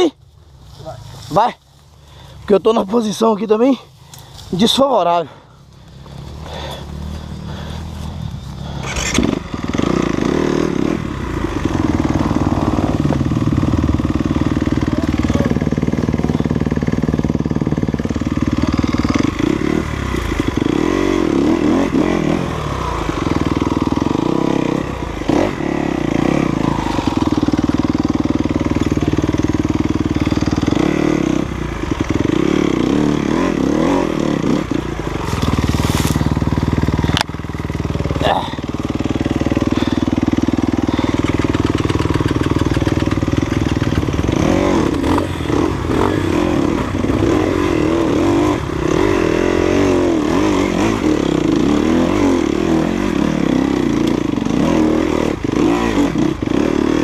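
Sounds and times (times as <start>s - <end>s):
motorcycle engine at high revs: 2.2s - 57.0s.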